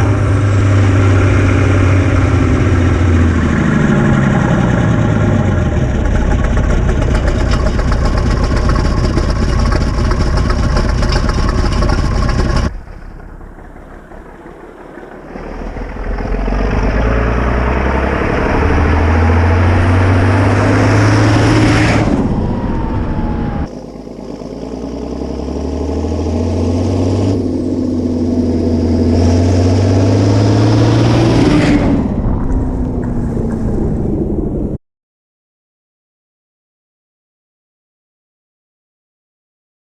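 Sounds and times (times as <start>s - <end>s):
tractor engine running: 0.0s - 34.6s.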